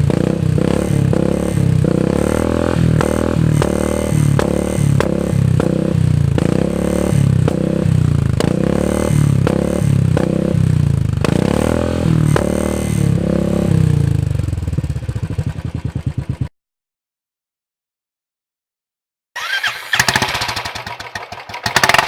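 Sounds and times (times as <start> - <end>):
motorcycle engine revving: 0.0 - 16.5, 19.4 - 22.0.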